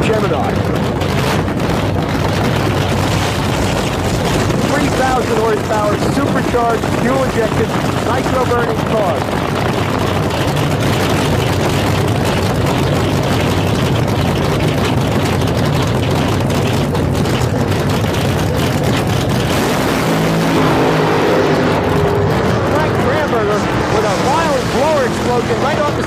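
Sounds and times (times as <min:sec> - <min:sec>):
dragster engines crackling roar: 0:00.0 - 0:26.0
steady pitched engine hum: 0:00.0 - 0:26.0.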